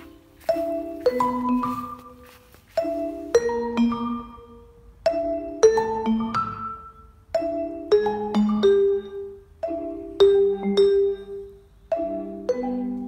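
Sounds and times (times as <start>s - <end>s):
light melody of struck notes: 0.0s - 13.0s.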